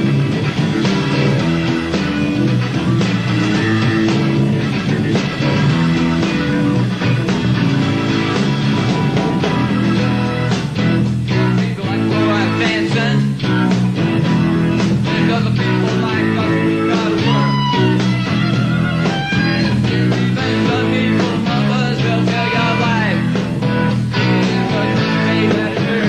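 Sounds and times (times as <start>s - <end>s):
bass: 0.0s - 26.0s
drums: 0.0s - 26.0s
electric guitars playing chords: 0.0s - 26.0s
lead guitar bending notes: 0.0s - 26.0s.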